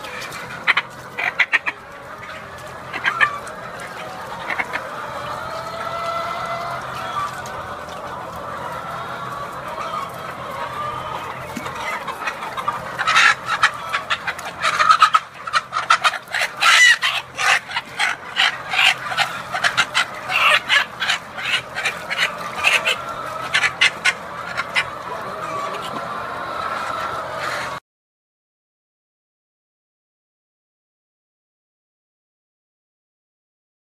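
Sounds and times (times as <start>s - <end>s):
chicken clucking: 0.0s - 27.8s
chicken squawks: 0.0s - 27.8s.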